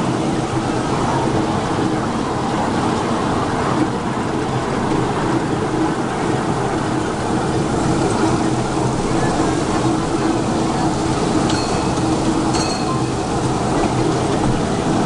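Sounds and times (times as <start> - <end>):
small train running on track: 0.0 - 15.0.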